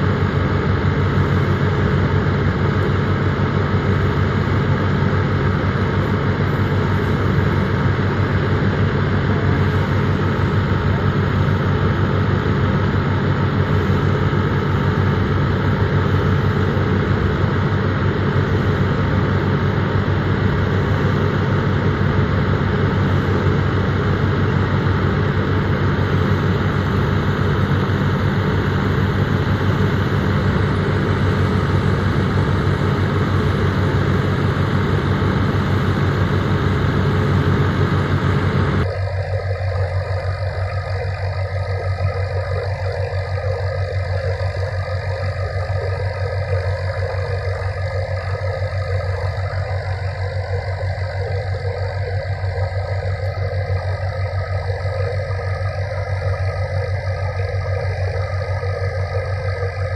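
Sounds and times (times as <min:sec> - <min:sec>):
thresher drum whirring: 0:00.0 - 0:59.9
tractor engine running: 0:00.0 - 0:59.9.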